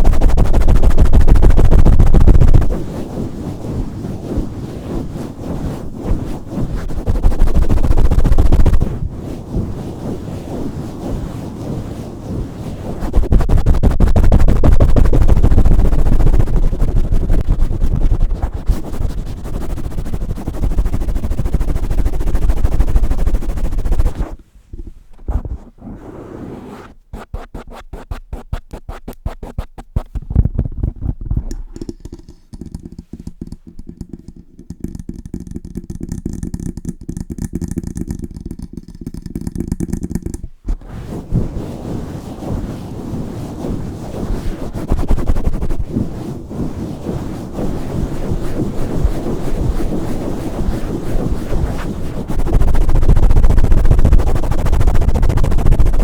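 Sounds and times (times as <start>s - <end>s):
hands rubbing on microphone: 0.0s - 56.0s
taps and scratches on microphone: 0.0s - 56.0s.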